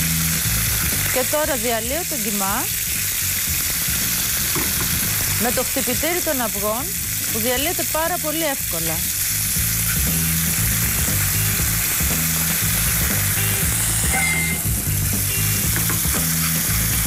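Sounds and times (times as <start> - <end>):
meat sizzling in a frying pan: 0.0 - 17.0.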